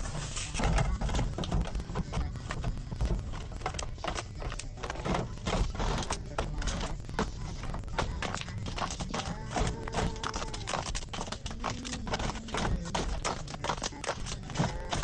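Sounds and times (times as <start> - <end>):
containers clicking and knocking: 0.0 - 15.0
packaging rustling: 0.0 - 15.0.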